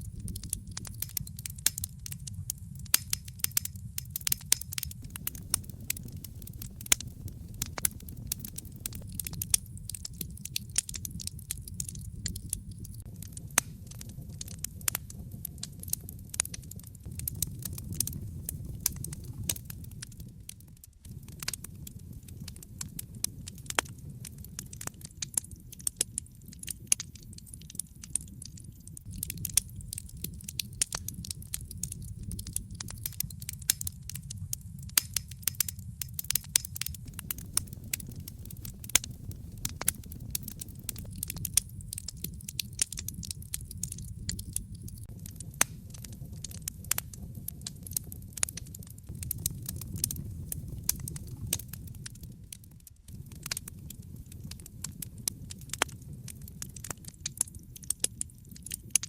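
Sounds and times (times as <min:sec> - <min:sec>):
low steady rumble: 0:00.0 - 0:25.0, 0:29.0 - 0:55.2
wood fire crackling: 0:00.0 - 0:59.0.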